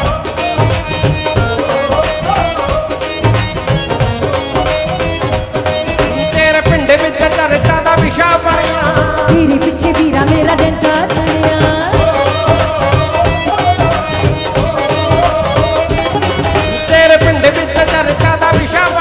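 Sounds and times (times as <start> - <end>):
band music: 0.0 - 19.0
fast drum rhythm: 0.0 - 19.0
person singing into a microphone: 0.0 - 19.0.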